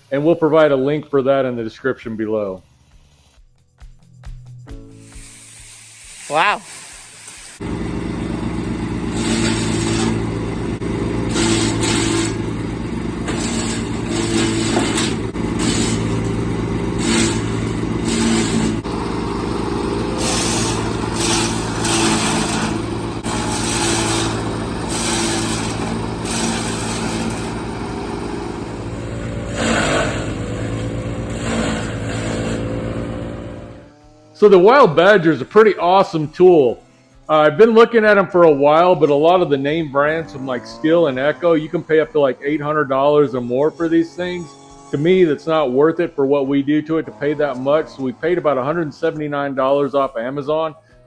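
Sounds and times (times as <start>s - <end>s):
brush cutter engine surging: 7.3s - 37.4s, 38.1s - 48.9s.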